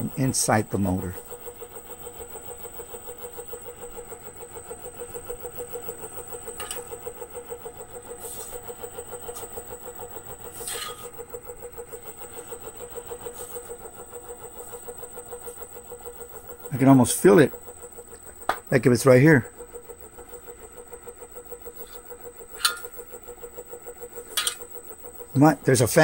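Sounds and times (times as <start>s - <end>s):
faint high whine: 0.0s - 2.3s, 3.0s - 26.0s
electric motor humming: 0.0s - 26.0s.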